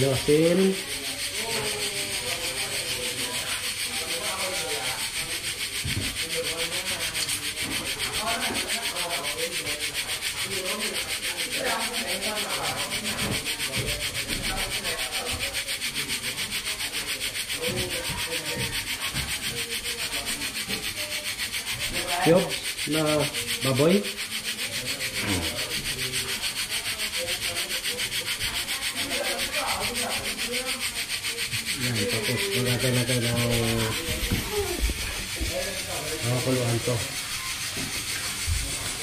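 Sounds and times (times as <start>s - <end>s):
pot hissing with fast pulse: 0.0s - 39.0s.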